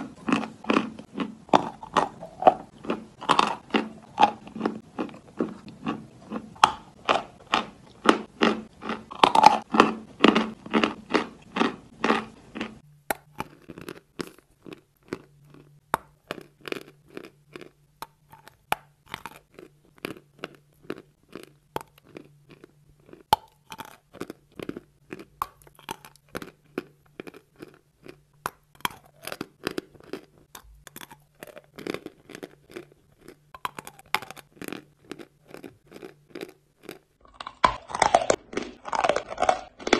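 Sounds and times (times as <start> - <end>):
chewing chalk crunches: 0.0 - 39.9.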